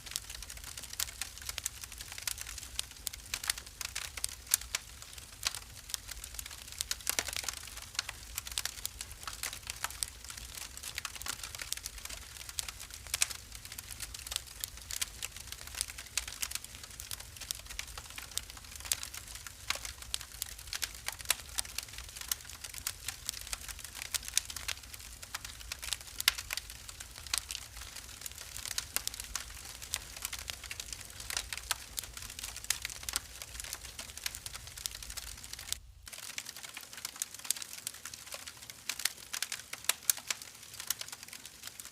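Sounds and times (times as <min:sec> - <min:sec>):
low rumble of flames: 0:00.0 - 0:36.0
wood fire crackling and popping: 0:00.0 - 0:41.9.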